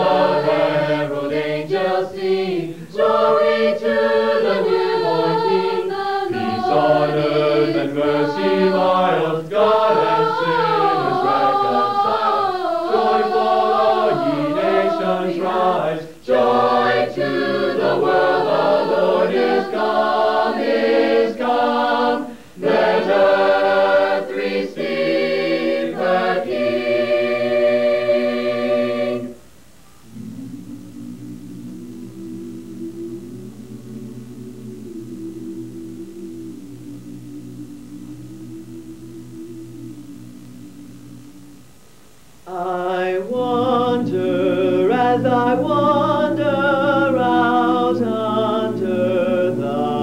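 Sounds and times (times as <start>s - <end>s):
mixed choir singing a cappella: 0.0s - 29.4s, 30.1s - 41.6s, 42.4s - 50.0s.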